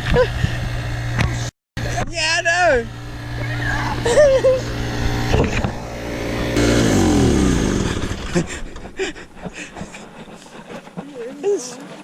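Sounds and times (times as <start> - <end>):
boat motor whine winding down: 0.0 - 10.7.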